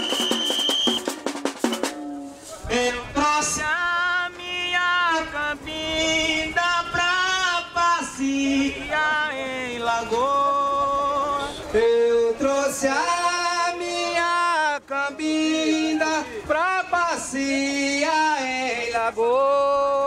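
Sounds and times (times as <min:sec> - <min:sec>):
person singing unaccompanied: 0:01.8 - 0:20.0.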